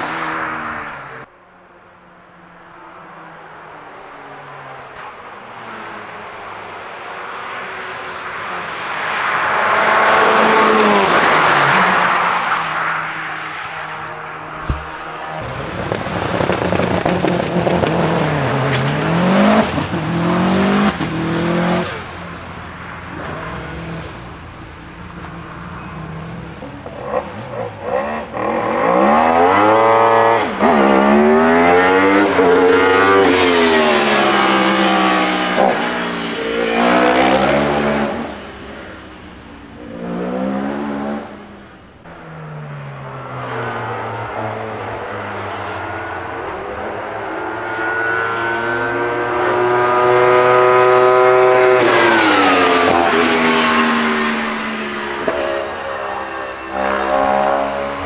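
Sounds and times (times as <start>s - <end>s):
race car engine revving: 7.4s - 42.3s, 43.4s - 58.0s.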